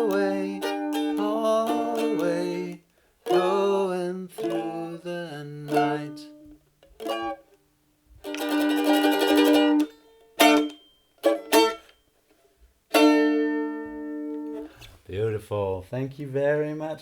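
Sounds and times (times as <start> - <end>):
string instrument strumming: 0.0 - 14.9.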